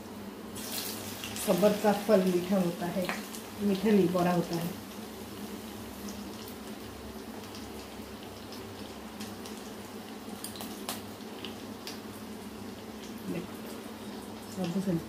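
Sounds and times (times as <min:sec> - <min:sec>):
deep-frying sizzle in hot oil: 0:00.0 - 0:15.0.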